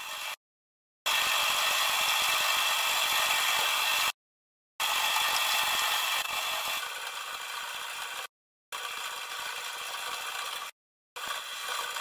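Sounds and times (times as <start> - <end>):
line boring machine running: 1.1 - 4.2, 4.8 - 12.0.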